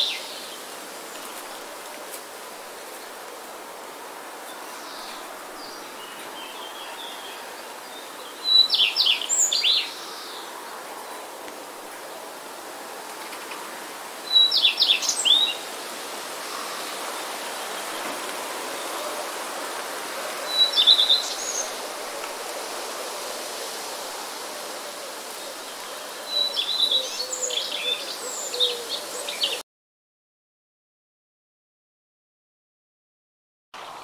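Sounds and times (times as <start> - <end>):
steady background hiss: 0.0 - 29.6.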